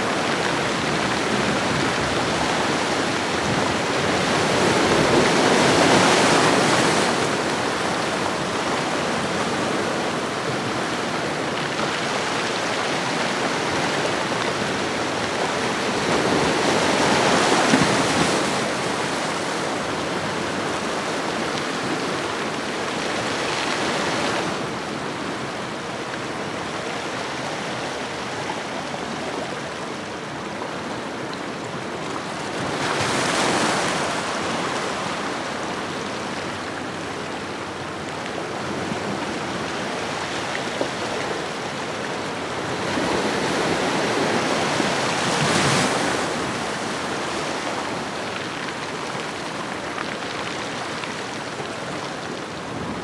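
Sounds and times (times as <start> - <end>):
ocean waves on shore: 0.0 - 30.9, 31.7 - 53.0.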